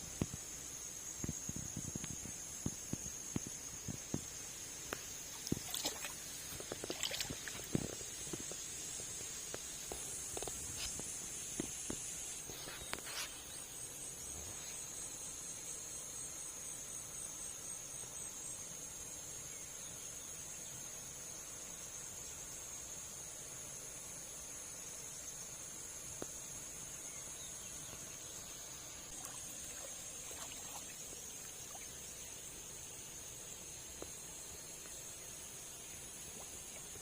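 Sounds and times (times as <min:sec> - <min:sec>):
insects high-pitched drone: 0:00.0 - 0:37.0.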